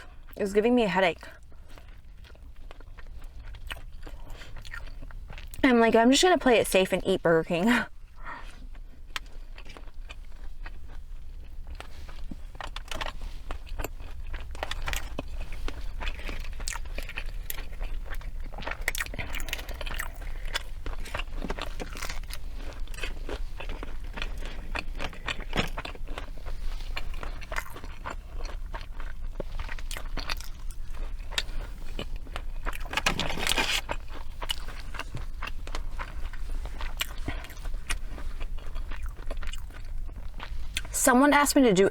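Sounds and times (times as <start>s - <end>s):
person chewing and crunching food: 0.0s - 6.6s, 7.5s - 41.4s.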